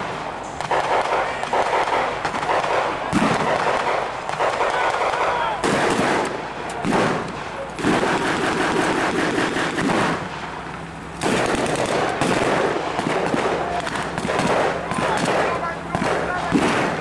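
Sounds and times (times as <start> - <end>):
machine guns and rifles firing: 0.0 - 10.6, 11.2 - 17.0.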